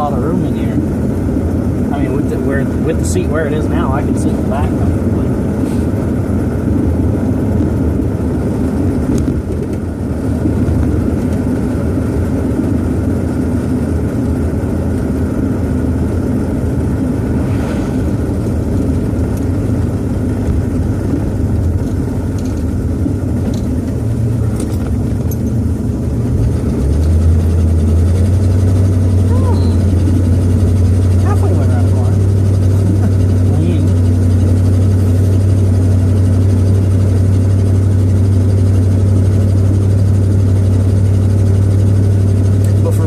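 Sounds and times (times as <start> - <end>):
car engine drone: 0.0 - 43.0
road noise: 0.0 - 43.0.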